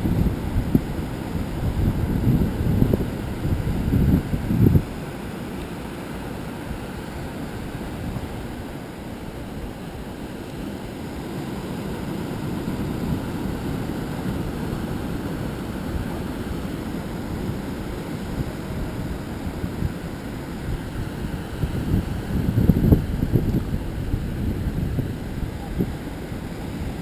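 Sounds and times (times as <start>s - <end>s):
wind buffeting microphone: 0.0s - 5.5s, 6.6s - 27.0s
surf washing on beach: 0.0s - 27.0s.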